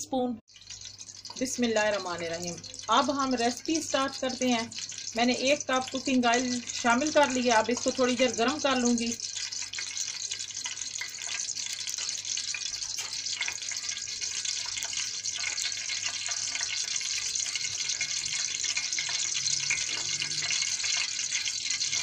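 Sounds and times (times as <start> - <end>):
oil hissing and crackling: 0.5 - 22.0.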